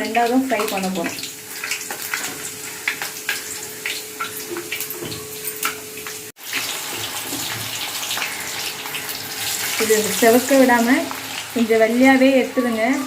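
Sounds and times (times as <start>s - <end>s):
potatoes deep-frying in oil: 0.0s - 13.0s.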